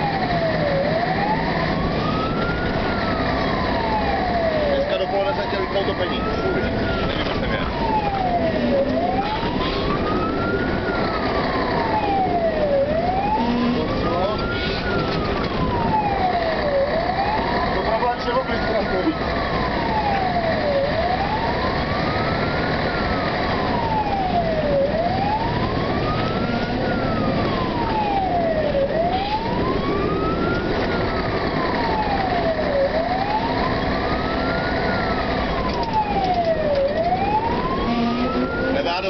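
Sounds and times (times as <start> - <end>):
fire engine siren wailing: 0.0 - 39.0
truck engine rumble: 0.0 - 39.0
tyres on the road: 0.0 - 39.0.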